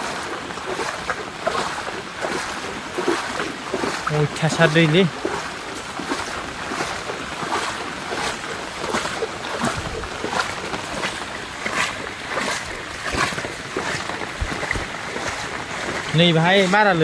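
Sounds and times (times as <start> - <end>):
floodwater rushing and splashing: 0.0 - 17.0.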